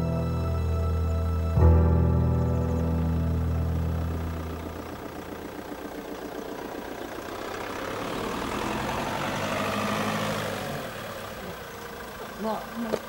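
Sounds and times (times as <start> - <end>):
car driving past: 1.7 - 12.4.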